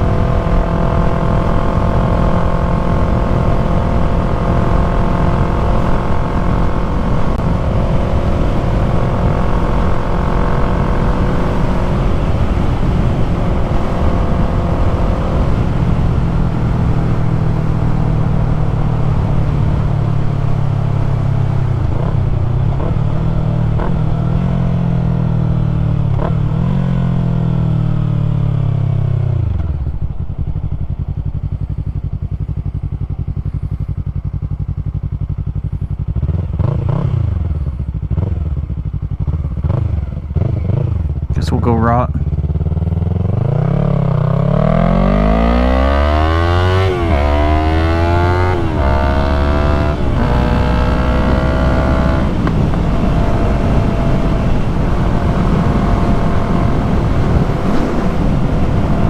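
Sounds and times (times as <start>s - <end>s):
wind noise: 0.0s - 35.0s, 42.2s - 59.0s
motorcycle engine revving: 0.0s - 59.0s.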